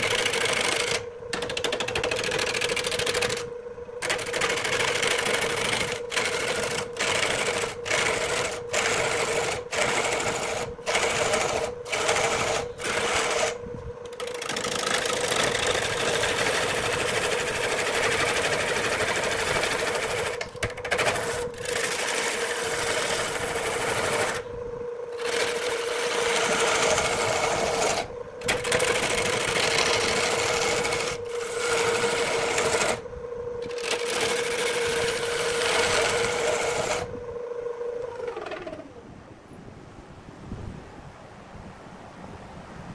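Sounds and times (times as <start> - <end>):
turning tool scraping wood: 0.0 - 24.5, 25.1 - 37.2
wood lathe humming: 0.0 - 39.1.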